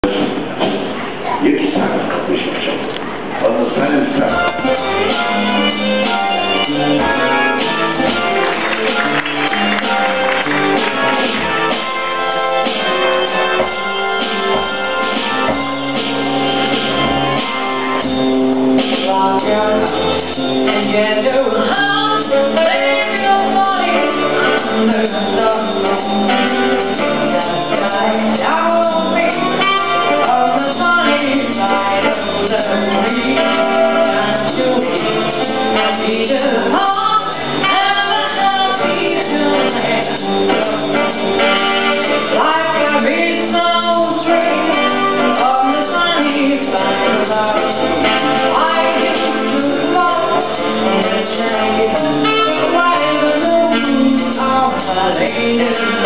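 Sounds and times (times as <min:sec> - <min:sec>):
live band with person singing: 0:00.0 - 0:56.0.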